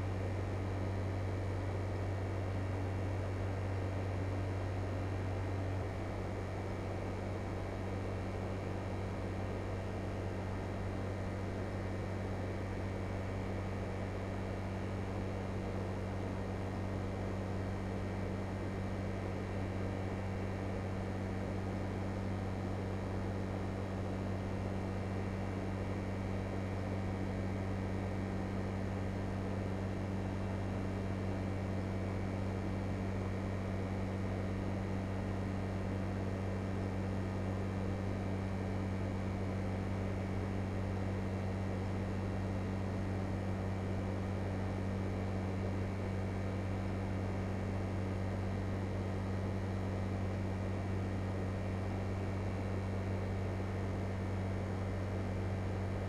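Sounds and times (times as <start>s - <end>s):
air conditioner hum and fan: 0.0s - 56.0s.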